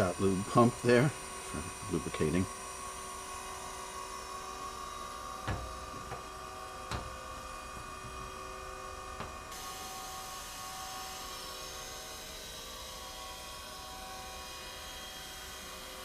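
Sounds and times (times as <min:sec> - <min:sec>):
surface grinder humming: 0:00.0 - 0:16.0.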